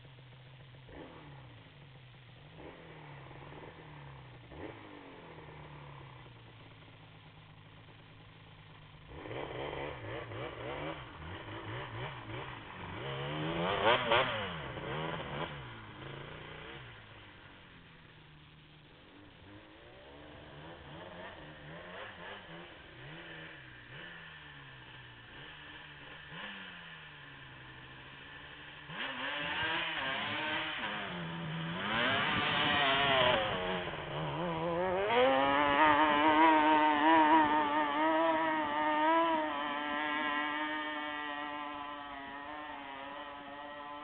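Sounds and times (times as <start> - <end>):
atv engines revving: 0.0 - 44.0.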